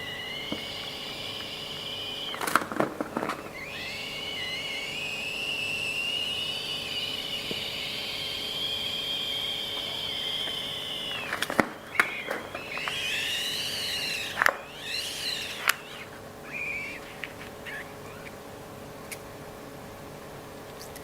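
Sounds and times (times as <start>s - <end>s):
balloon squealing: 0.0s - 18.4s.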